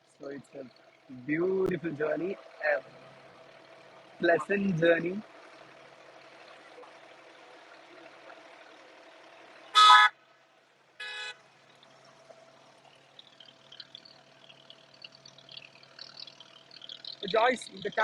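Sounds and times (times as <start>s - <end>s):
boat engine hum: 0.0s - 18.0s.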